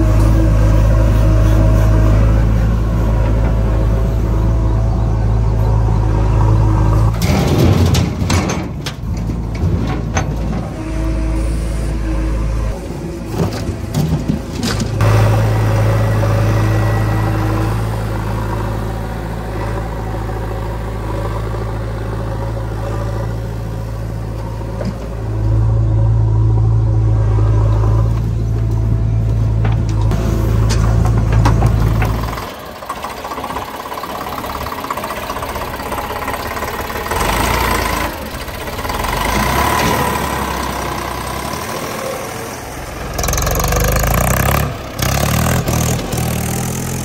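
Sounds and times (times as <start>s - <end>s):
backhoe diesel engine running: 0.0s - 47.0s.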